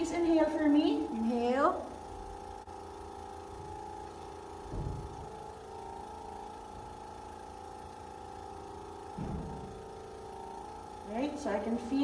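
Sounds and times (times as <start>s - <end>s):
electric suction pump humming: 0.0s - 12.0s.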